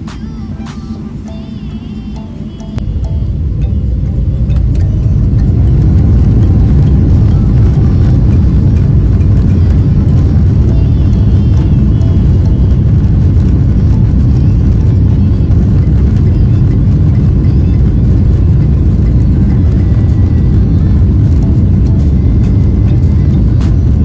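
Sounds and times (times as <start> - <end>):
jet airliner cabin rumble: 0.0 - 24.0.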